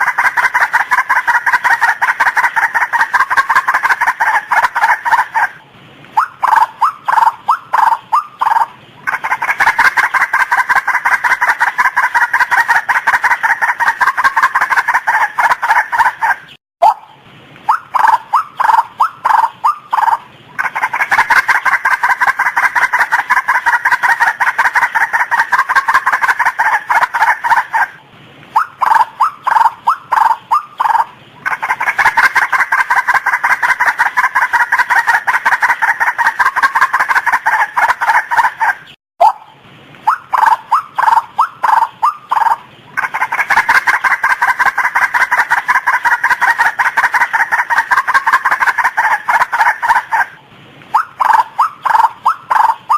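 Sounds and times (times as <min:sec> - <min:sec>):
waterhen harsh calls: 0:00.0 - 0:52.9.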